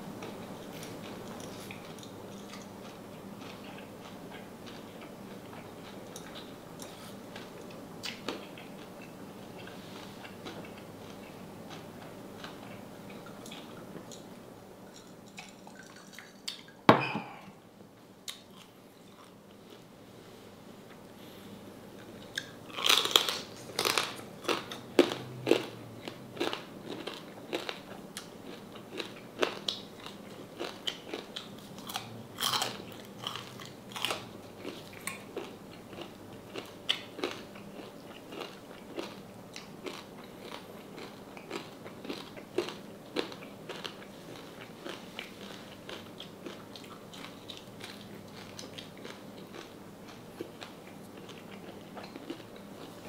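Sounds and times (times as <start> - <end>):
crunching and chewing crispy pork: 0.2 - 14.3, 22.0 - 53.0.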